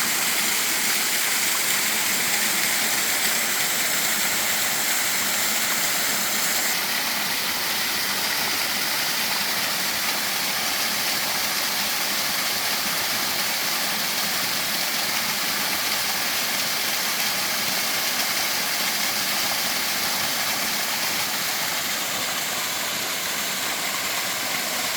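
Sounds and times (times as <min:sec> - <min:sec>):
stream rushing: 0:00.0 - 0:24.9.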